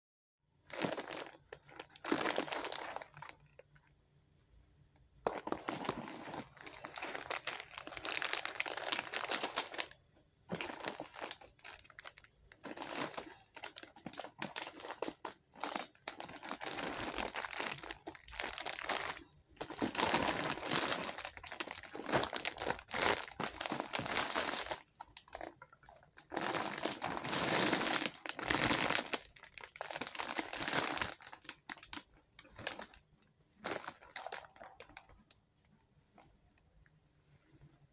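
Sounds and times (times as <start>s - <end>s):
plastic wrappers crinkling: 0.7s - 3.9s, 5.3s - 35.3s.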